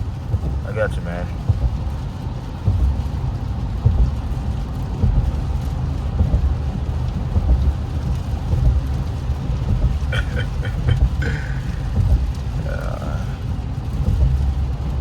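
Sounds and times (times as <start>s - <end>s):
car engine and tyre rumble: 0.0s - 15.0s
hiss of rain and spray: 0.0s - 15.0s.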